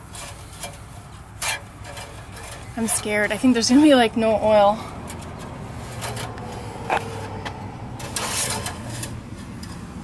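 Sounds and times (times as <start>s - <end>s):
dipstick scraping and clicking: 0.0s - 10.0s.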